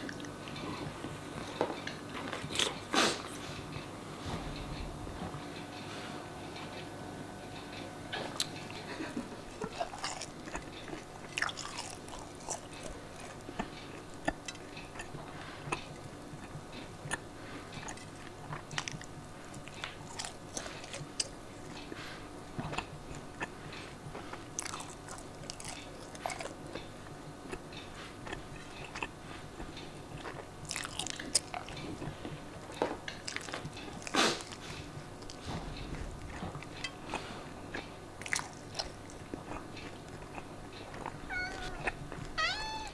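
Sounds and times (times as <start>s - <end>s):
chewing and crunching: 0.0s - 6.8s, 7.6s - 42.9s
faint steady hum: 0.0s - 42.9s.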